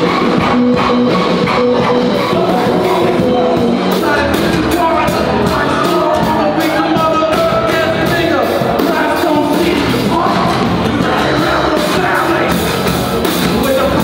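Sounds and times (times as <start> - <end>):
drum kit fast beat: 0.0 - 14.0
electric guitar: 0.0 - 14.0
person singing: 0.0 - 14.0.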